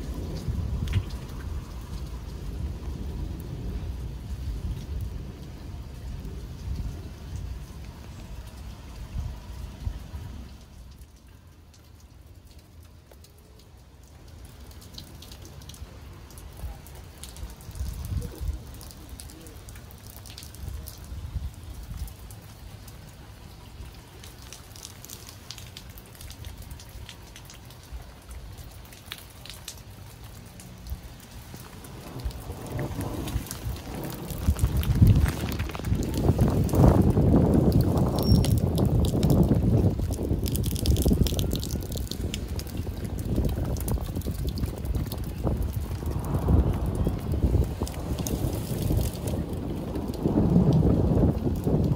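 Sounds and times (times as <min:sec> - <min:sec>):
rain drops ticking on leaves: 0:00.0 - 0:51.9
steady rain hiss: 0:00.0 - 0:51.9.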